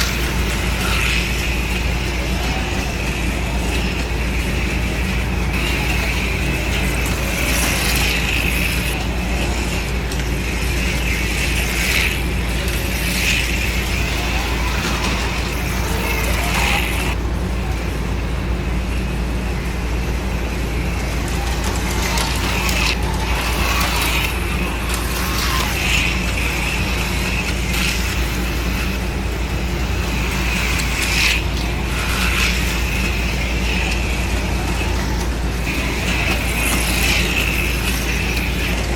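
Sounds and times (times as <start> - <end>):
slot cars whirring and rattling: 0.0 - 38.9
steady low hum: 0.0 - 38.9.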